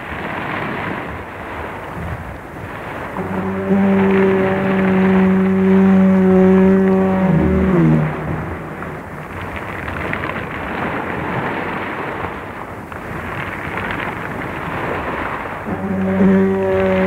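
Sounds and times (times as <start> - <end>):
rough sea breaking: 0.0 - 17.0.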